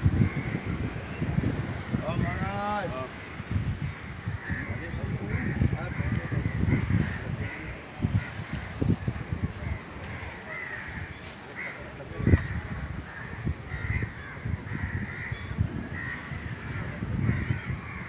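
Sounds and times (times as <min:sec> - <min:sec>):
crows cawing: 0:00.1 - 0:00.8, 0:03.1 - 0:08.8, 0:09.6 - 0:18.0.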